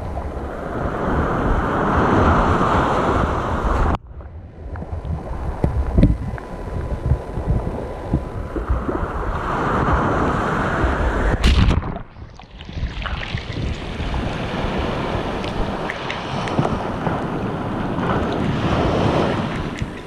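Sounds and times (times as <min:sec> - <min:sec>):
ocean waves breaking: 0:00.0 - 0:04.0, 0:05.2 - 0:20.0.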